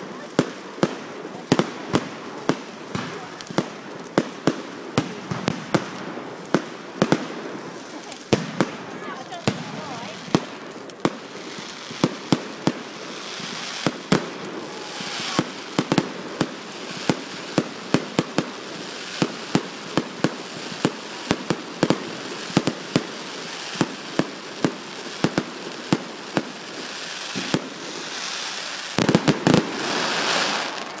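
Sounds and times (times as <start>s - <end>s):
crackling hiss of fireworks: 0.0s - 31.0s.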